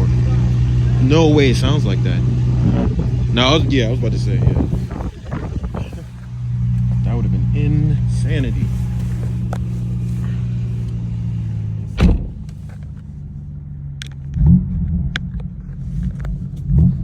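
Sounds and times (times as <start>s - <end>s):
car engine idling and revving: 0.0s - 17.0s
exhaust pops and crackles: 0.0s - 17.0s.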